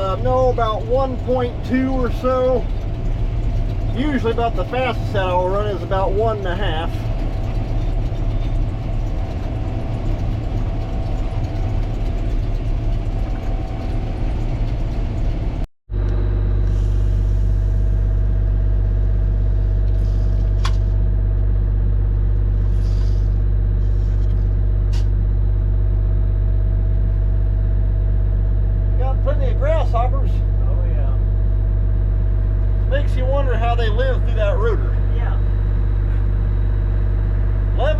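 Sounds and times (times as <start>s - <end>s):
combine harvester engine drone: 0.0s - 37.9s.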